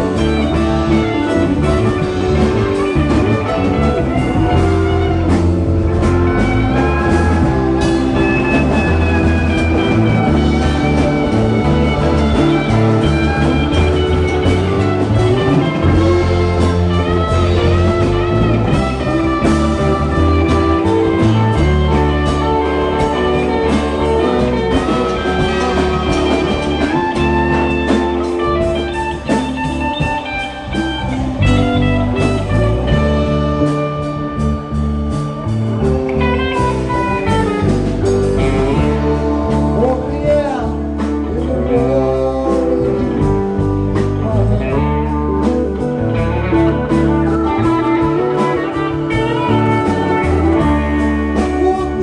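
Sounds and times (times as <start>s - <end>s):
drum kit: 0.0s - 52.0s
electric bass: 0.0s - 52.0s
electric guitar lead: 0.0s - 52.0s
keyboards: 0.0s - 52.0s.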